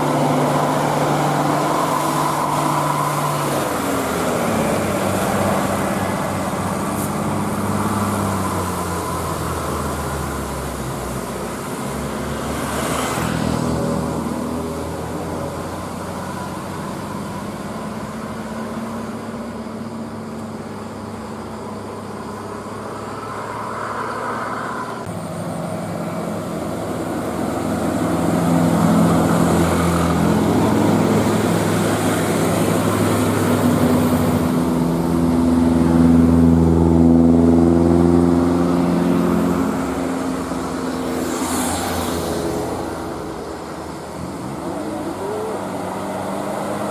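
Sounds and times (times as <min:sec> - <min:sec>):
bus engines running: 0:00.0 - 0:46.9
traffic noise: 0:00.0 - 0:46.9.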